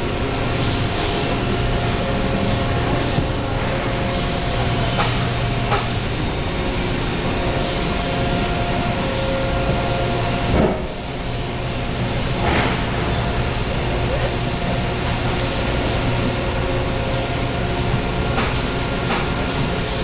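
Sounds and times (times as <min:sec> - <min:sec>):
injection molding machine hum: 0:00.0 - 0:20.0.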